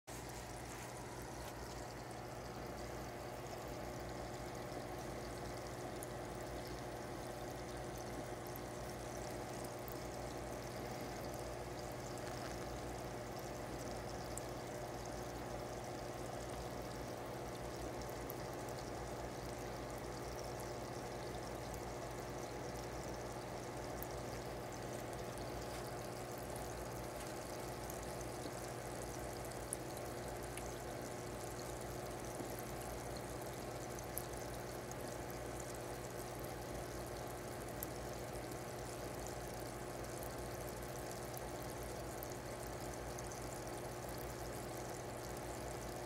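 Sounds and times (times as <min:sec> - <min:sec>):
low even hum: 0:00.1 - 0:46.0
water trickling in fish tank: 0:00.1 - 0:46.0.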